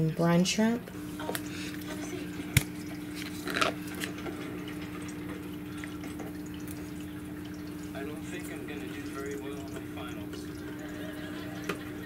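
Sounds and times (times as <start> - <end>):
aquarium filter humming: 0.0 - 12.0
water trickling: 0.6 - 12.0.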